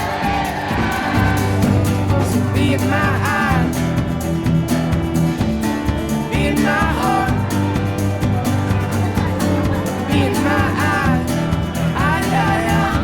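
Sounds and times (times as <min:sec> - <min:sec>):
instrumental music with guitar: 0:00.0 - 0:13.0.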